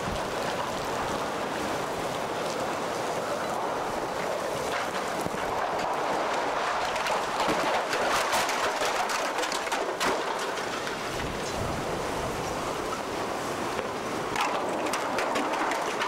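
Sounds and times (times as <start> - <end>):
hurricane wind: 0.0 - 16.0
rain tapping: 0.0 - 16.0.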